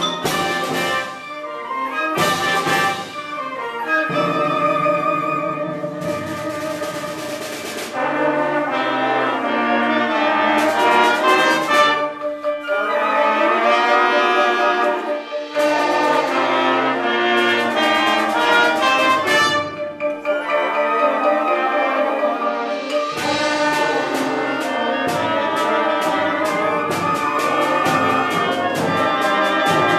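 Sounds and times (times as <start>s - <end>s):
orchestral brass playing held notes: 0.0s - 29.9s.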